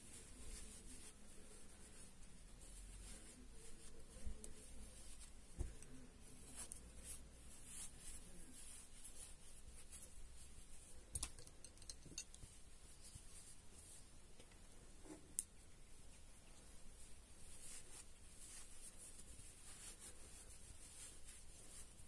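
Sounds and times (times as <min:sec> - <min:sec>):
rustling of plush fabric: 0:00.0 - 0:11.1, 0:12.4 - 0:22.0.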